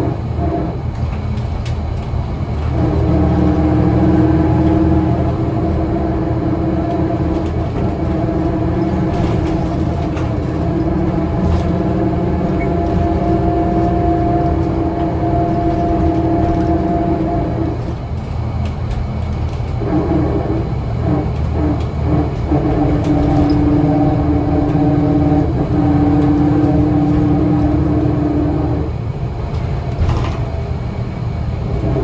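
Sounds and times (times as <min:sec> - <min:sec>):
bus engine droning hum: 0:00.0 - 0:32.0.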